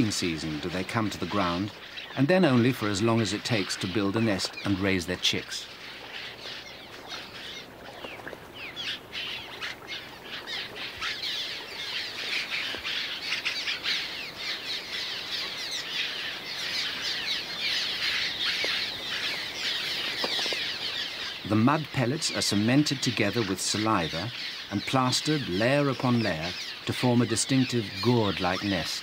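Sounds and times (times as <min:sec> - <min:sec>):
swallows chattering: 0:00.0 - 0:29.0.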